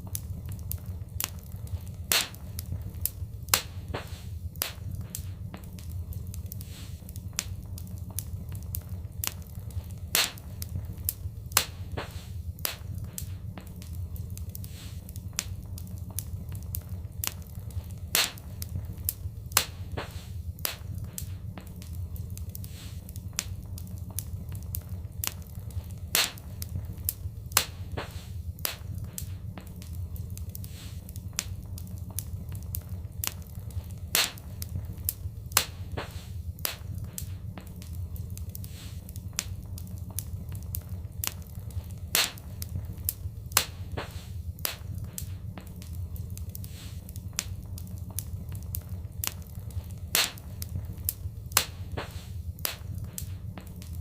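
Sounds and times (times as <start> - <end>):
loud fire pops: 0.0 - 54.0
steady low rumble: 0.0 - 54.0
wood fire crackling: 0.0 - 54.0.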